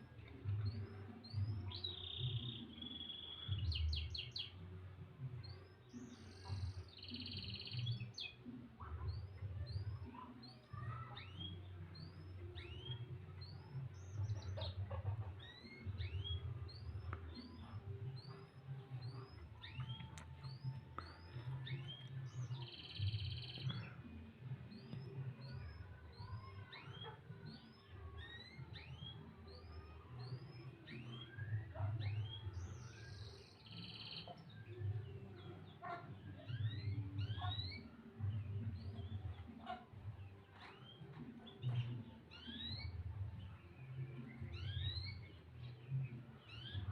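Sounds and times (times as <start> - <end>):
canary chirping: 0.2 - 4.6, 5.6 - 46.9.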